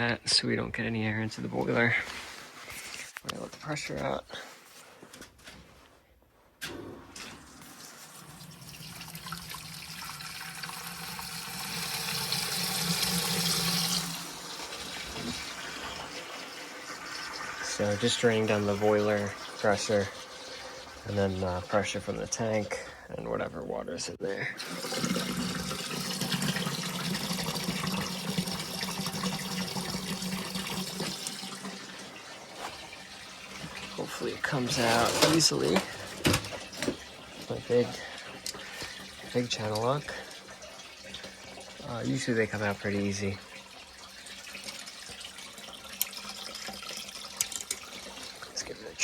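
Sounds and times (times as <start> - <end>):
water rushing through pipes: 6.6 - 49.0.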